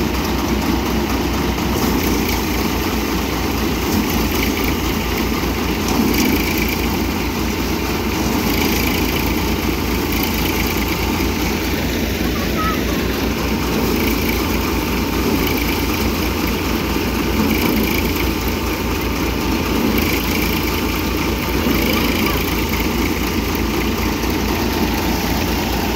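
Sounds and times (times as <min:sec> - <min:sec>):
thresher running: 0:00.0 - 0:25.9
tractor engine pulsing: 0:00.0 - 0:25.9.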